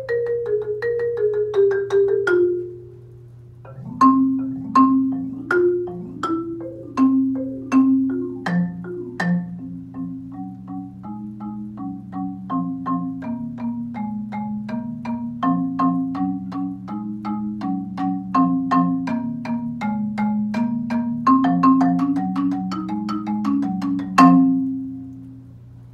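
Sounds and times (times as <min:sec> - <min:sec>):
marimba playing: 0:00.0 - 0:25.4.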